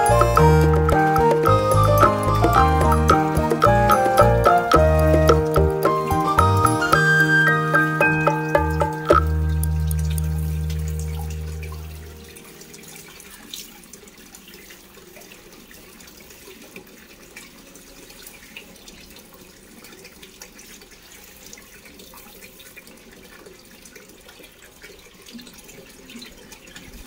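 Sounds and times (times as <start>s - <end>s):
fountain water trickling into tub: 0.0s - 27.0s.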